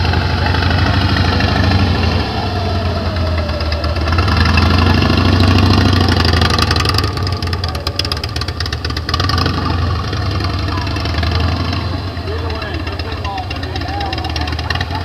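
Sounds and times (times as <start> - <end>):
motorcycle engine low beat: 0.0 - 15.0.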